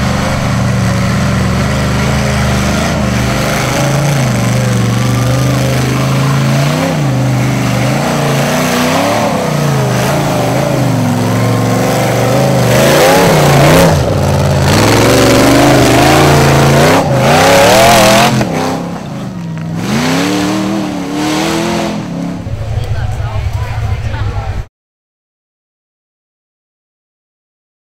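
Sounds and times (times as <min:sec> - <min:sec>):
buggy engine revving hard: 0:00.0 - 0:22.8.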